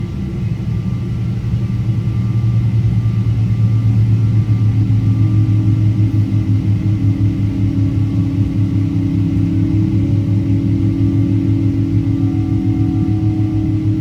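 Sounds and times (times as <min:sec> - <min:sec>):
jet engines rumbling: 0:00.0 - 0:14.0
faint higher tone: 0:02.0 - 0:14.0.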